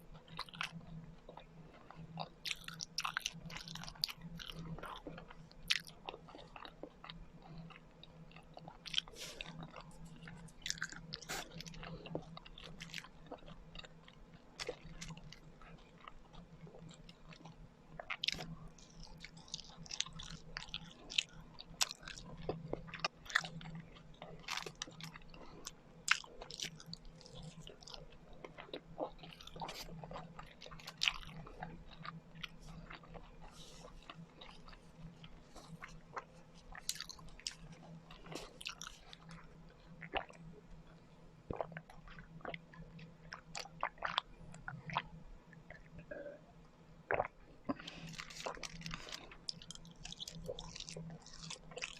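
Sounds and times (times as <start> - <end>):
faint steady hum: 0.0 - 51.9
chewing and biting: 0.1 - 46.4, 47.1 - 51.9.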